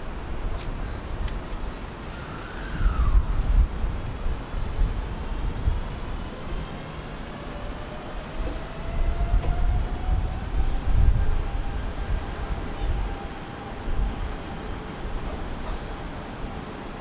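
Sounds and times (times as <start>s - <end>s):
electric train rumble: 1.7s - 17.0s.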